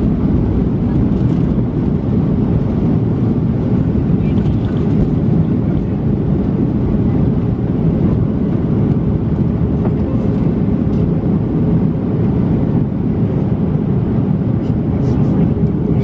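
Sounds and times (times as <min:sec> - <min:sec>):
air rushing along fuselage: 0:00.0 - 0:16.0
jet engines humming: 0:00.0 - 0:16.0.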